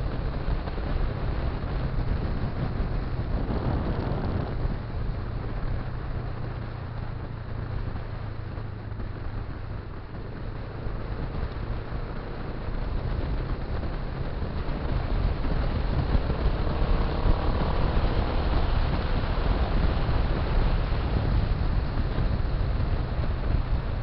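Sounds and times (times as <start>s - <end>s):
motorcycle engine running: 0.0s - 24.0s
wind rumble on microphone: 0.0s - 24.0s.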